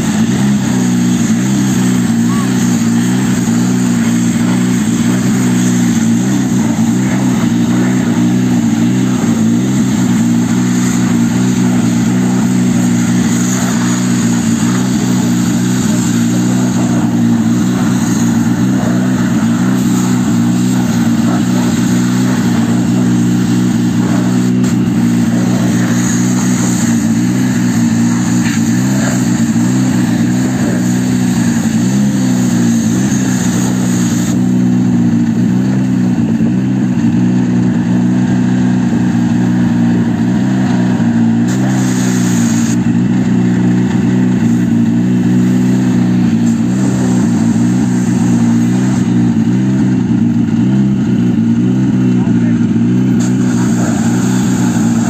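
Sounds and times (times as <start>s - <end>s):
engine drone: 0.0s - 55.0s
pressure washer spraying water: 0.0s - 55.0s.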